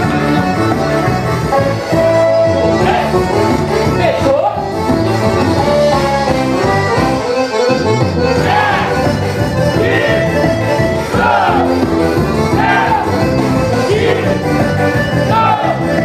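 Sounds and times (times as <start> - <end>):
folk music led by accordion: 0.0 - 16.0.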